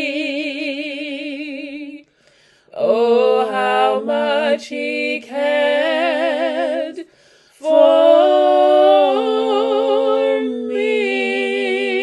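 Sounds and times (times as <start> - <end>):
women singing in harmony: 0.0 - 2.0, 2.7 - 12.0.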